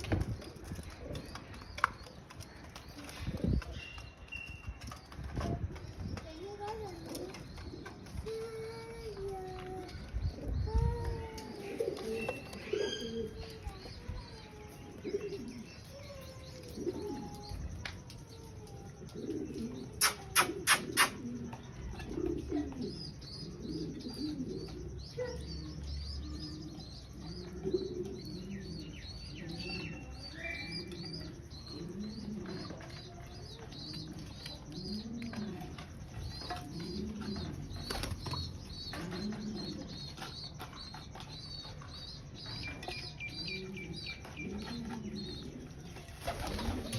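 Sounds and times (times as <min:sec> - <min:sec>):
pigeons cooing: 0:00.0 - 0:46.9
small birds chirping: 0:00.0 - 0:46.9.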